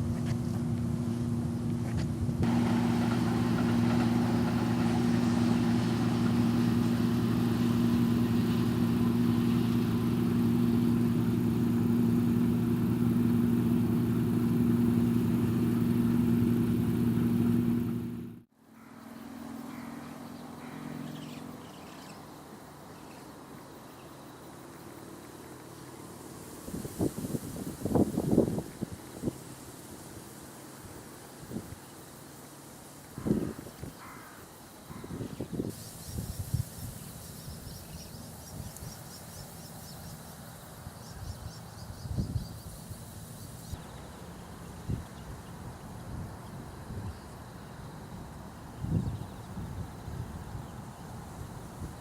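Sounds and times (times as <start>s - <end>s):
vehicle hum: 0.0s - 33.9s, 35.1s - 52.0s
outdoor background noise: 0.0s - 52.0s.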